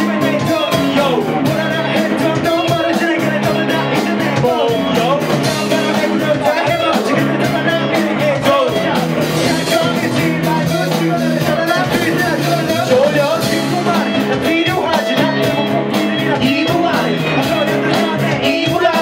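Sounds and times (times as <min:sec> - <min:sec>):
live rock band playing: 0:00.0 - 0:19.0
man rapping: 0:00.0 - 0:19.0.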